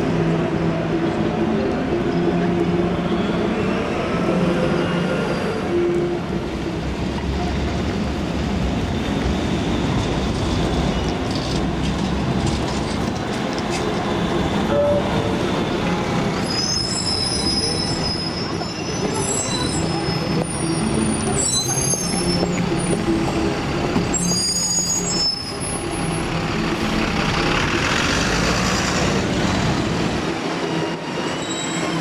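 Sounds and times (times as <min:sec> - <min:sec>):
tram wheels squealing: 0:01.0 - 0:32.0.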